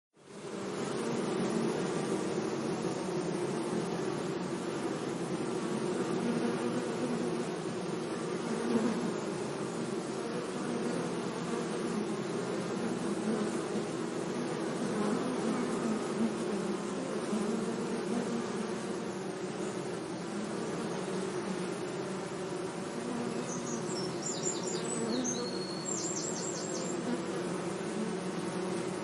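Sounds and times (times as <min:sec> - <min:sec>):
bee buzzing: 0:00.2 - 0:29.0.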